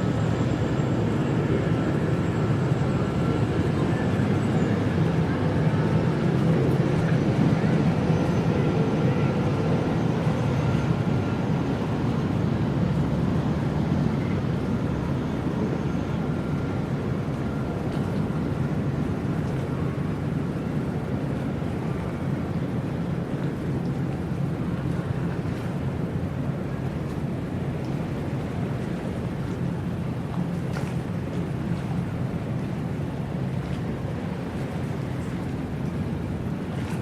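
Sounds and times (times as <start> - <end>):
faint steady hum: 0.0 - 37.0
river water flowing: 3.4 - 37.0.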